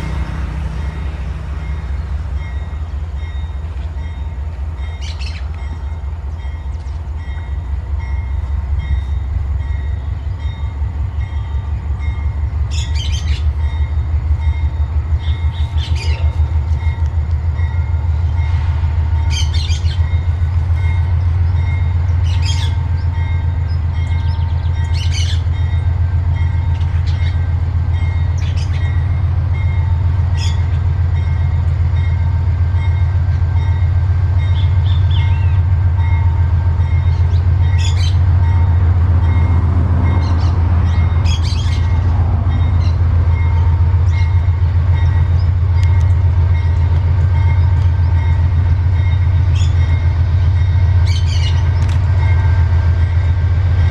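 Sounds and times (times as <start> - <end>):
diesel locomotive engine rumbling: 0.0 - 53.9.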